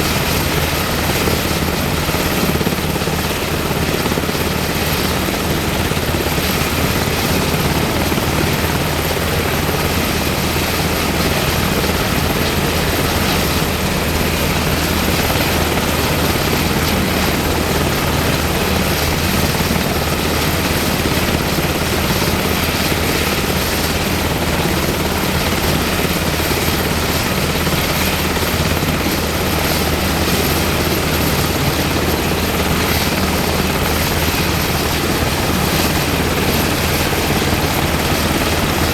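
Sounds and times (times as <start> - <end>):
helicopter engines and rotors: 0.0 - 38.9.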